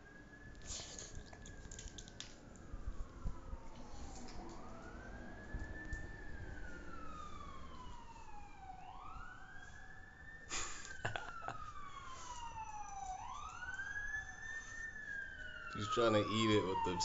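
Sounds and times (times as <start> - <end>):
emergency vehicle siren wailing: 0.0 - 17.0.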